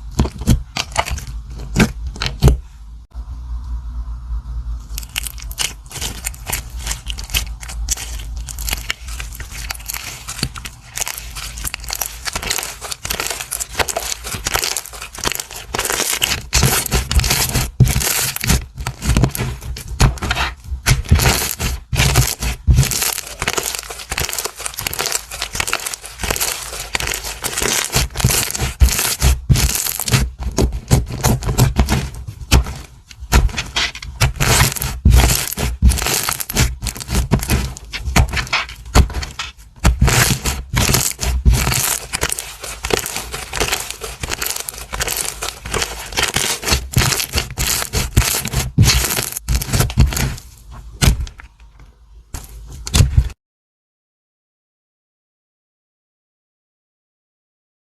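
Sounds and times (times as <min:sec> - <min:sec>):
slime crackling and popping: 0:04.9 - 0:51.4.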